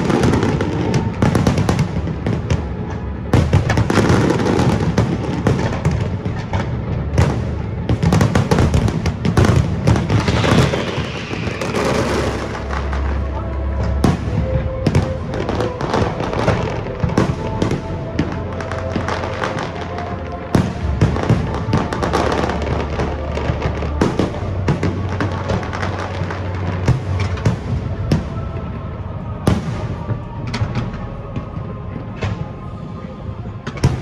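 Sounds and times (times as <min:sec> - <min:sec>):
fireworks bangs and crackle: 0:00.0 - 0:34.0
music with held notes: 0:00.0 - 0:34.0.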